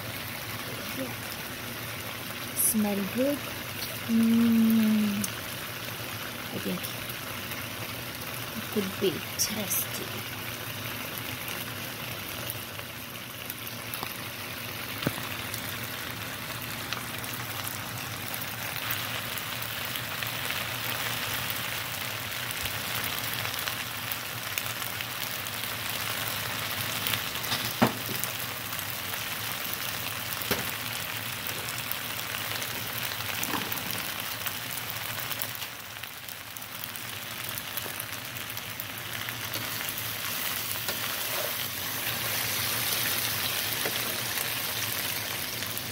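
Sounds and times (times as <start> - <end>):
food sizzling in a frying pan: 0.0 - 45.9.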